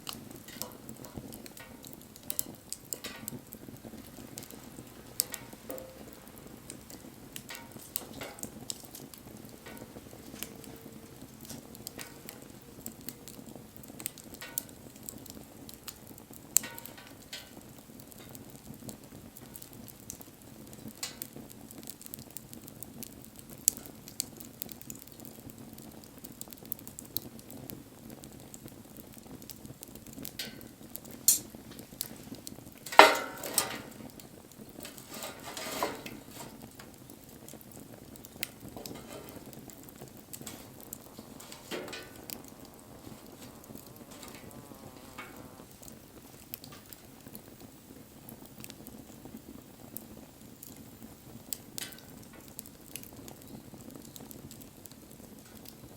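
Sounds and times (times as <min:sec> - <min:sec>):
bonfire rushing: 0:00.0 - 0:55.9
fire crackles and pops: 0:00.0 - 0:55.9.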